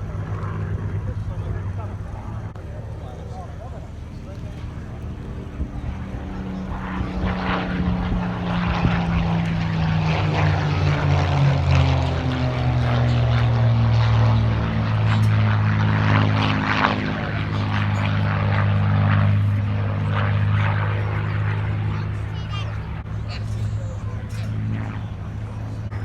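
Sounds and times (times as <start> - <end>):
propeller aircraft engines droning: 0.0 - 26.0.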